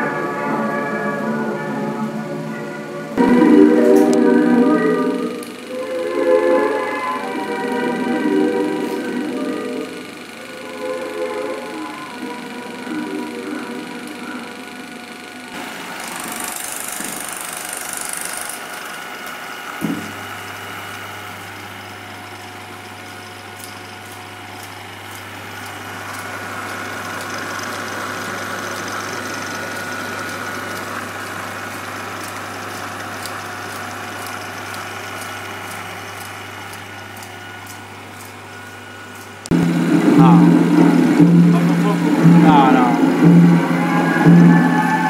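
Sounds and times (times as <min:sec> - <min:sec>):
film projector whirring: 0:00.0 - 0:45.0
steady low hum: 0:00.0 - 0:45.0.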